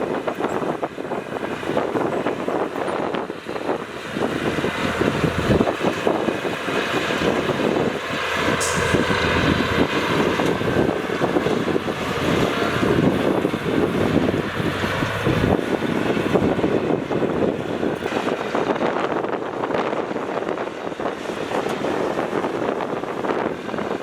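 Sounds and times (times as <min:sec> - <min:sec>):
diesel engines of heavy machinery: 0:00.0 - 0:24.0.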